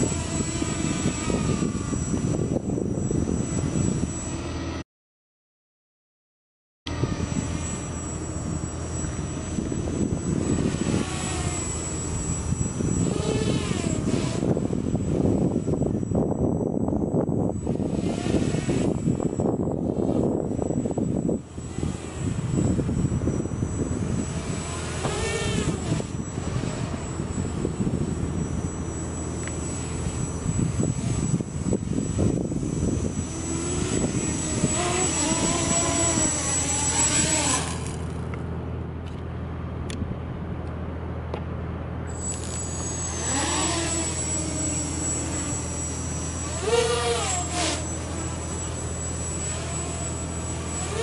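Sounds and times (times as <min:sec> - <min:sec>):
drone motors buzzing: 0:00.0 - 0:04.8, 0:06.9 - 0:39.2, 0:42.0 - 0:51.0.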